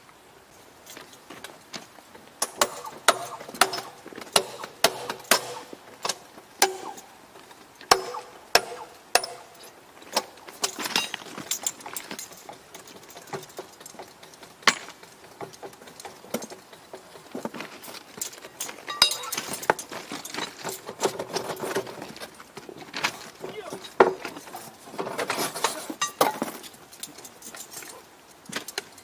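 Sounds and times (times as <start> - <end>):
metal tools clanking on steel rail: 2.4 - 7.1, 7.9 - 22.4, 23.0 - 29.0.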